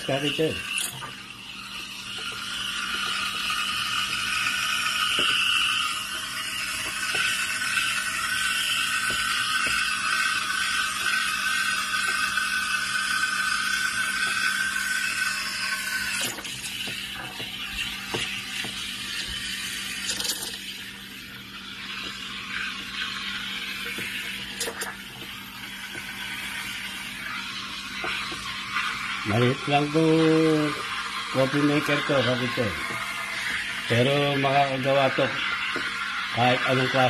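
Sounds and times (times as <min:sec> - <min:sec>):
steam wand hissing in milk: 0:00.0 - 0:37.0.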